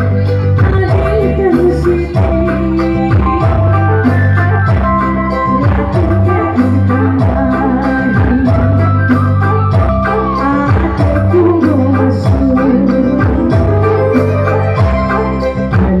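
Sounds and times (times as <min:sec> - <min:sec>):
electronic drum beat: 0:00.0 - 0:16.0
electronic organ chords: 0:00.0 - 0:16.0
woman singing into microphone: 0:00.0 - 0:16.0.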